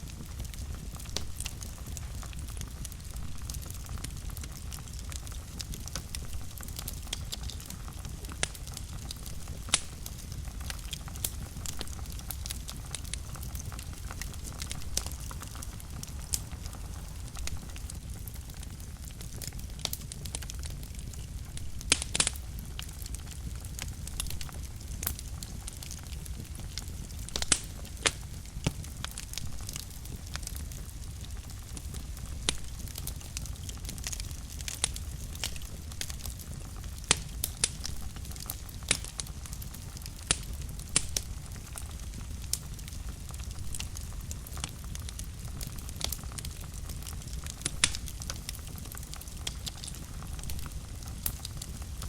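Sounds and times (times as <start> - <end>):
fire crackling and popping: 0.0 - 52.0
low rumble of flames: 0.0 - 52.0.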